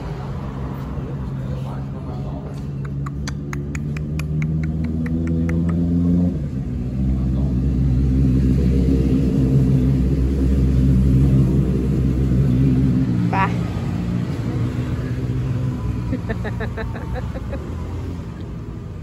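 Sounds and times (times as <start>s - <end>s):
engine running with low drone: 0.0s - 19.0s.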